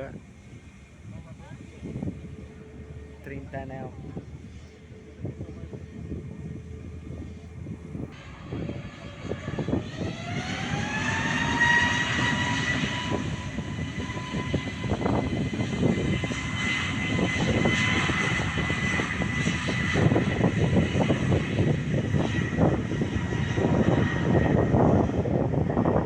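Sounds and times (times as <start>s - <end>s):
jet engine rumble: 0.0s - 26.0s
jet engines whining: 0.0s - 26.0s.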